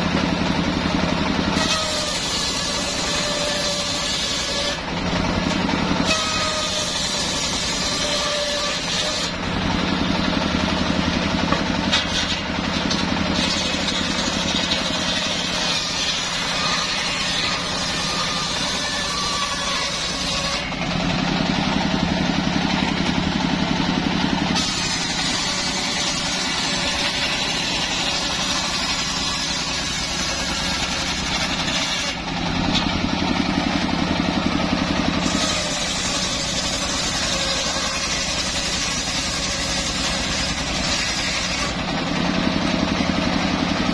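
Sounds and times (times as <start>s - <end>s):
circular saw ripping wood: 0.0s - 43.9s
machine drone: 0.0s - 43.9s.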